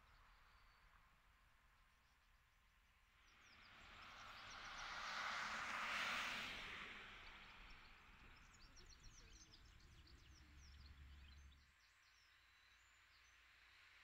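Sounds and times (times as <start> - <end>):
faint birdsong chirps: 0.0 - 5.6, 7.2 - 14.0.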